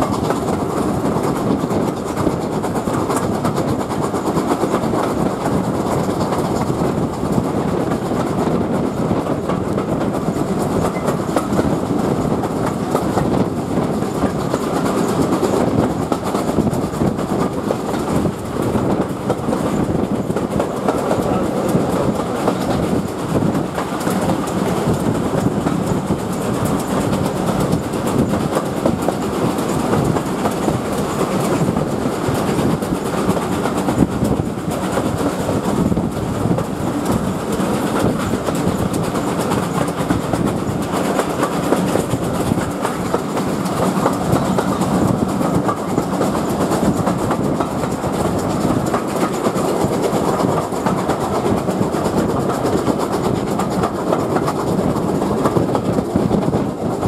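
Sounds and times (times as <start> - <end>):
train rumble: 0.0 - 57.0
train wheels clattering over track: 0.0 - 57.0.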